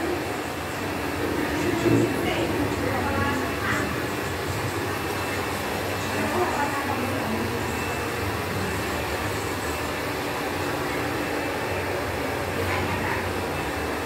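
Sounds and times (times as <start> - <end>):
hair dryers running: 0.0 - 14.0.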